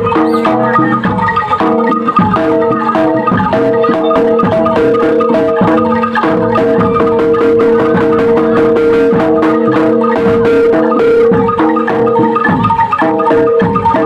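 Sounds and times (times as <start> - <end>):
gamelan playing: 0.0 - 14.0.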